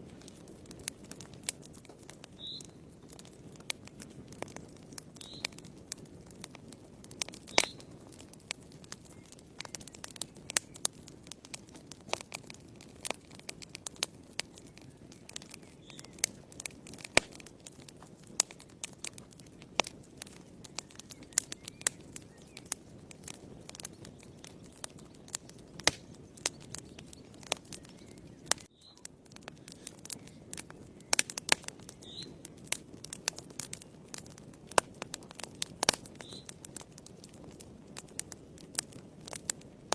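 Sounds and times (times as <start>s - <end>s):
rush of flames: 0.0s - 39.9s
wood fire crackling and popping: 0.0s - 39.9s.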